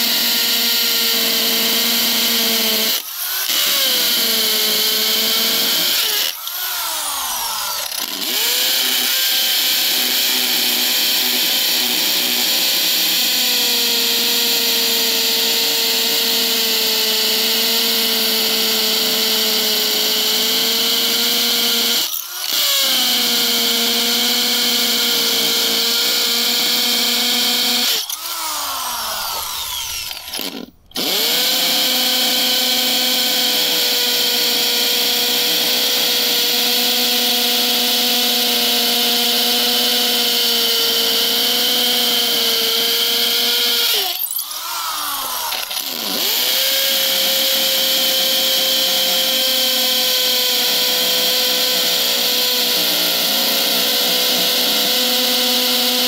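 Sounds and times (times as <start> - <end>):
hammer drill boring into concrete: 0.0 - 56.0.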